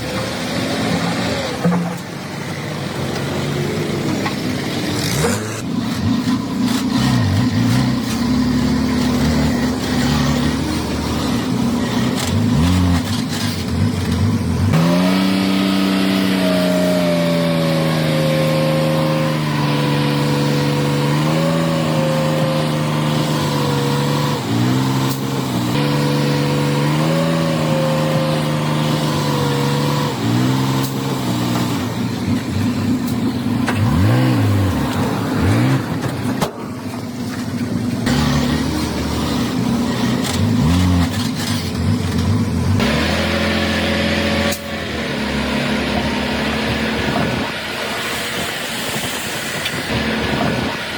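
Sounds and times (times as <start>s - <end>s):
heavy diesel engine revving: 0.0s - 36.4s, 38.0s - 50.9s.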